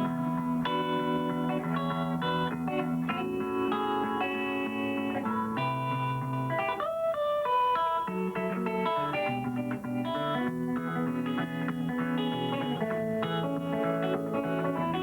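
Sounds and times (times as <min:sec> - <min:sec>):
guitar fingerpicking: 0:00.0 - 0:15.0.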